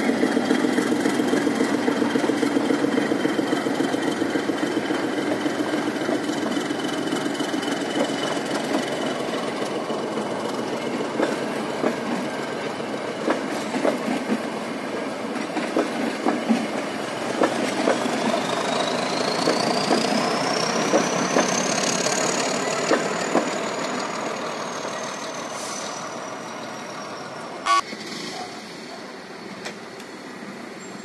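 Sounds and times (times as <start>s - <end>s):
train wheels clicking over rail joints: 0.0s - 25.0s.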